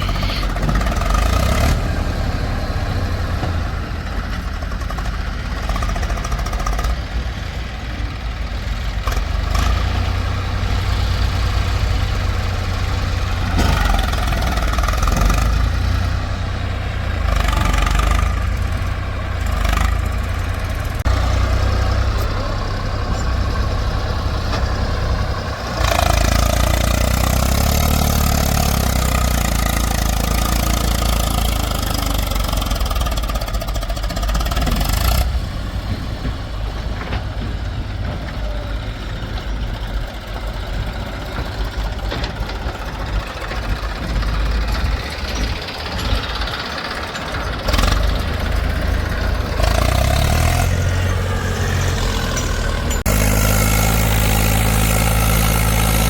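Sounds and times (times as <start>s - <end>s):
diesel engines idling: 0.0s - 56.0s.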